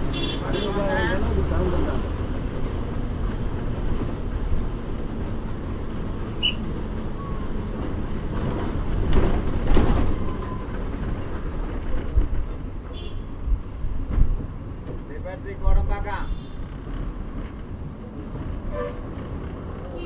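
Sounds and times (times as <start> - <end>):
bus engine hum: 0.0 - 20.0
road rumble: 0.0 - 20.0.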